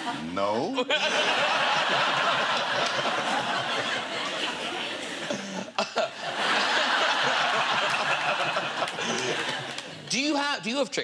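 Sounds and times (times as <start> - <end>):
audience laughing: 0.9 - 10.0.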